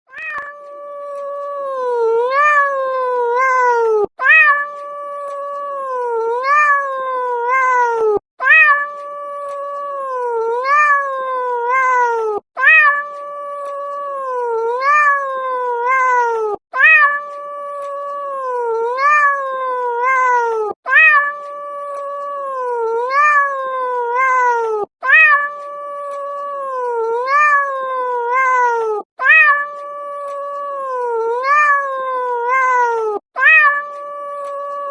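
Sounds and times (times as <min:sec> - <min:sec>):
cat yowling: 0:00.1 - 0:34.9.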